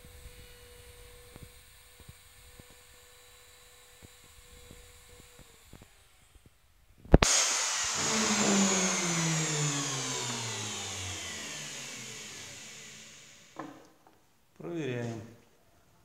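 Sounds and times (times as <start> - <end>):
router motor spinning down: 0.1 - 6.5, 7.2 - 13.8.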